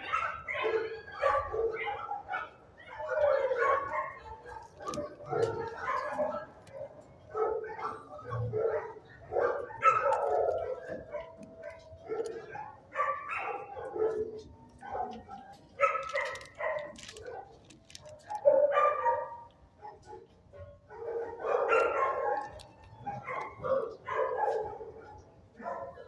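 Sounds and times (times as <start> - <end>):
dogs barking and yipping: 0.0 - 26.0.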